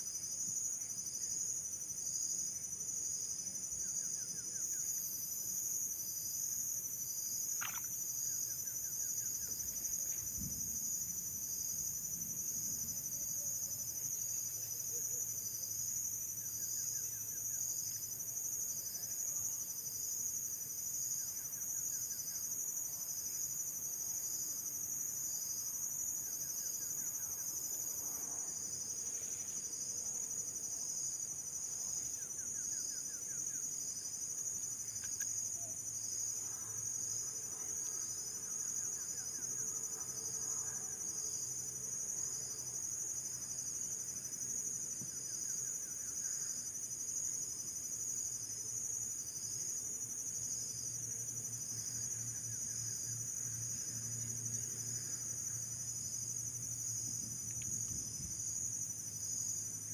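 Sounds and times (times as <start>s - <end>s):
insects trilling: 0.2s - 59.9s.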